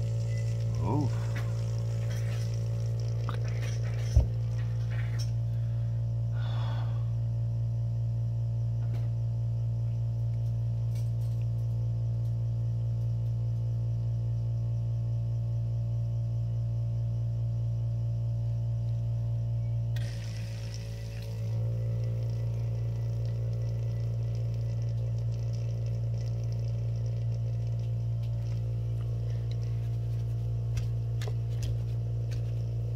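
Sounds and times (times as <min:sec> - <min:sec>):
low electric hum: 0:00.0 - 0:32.9.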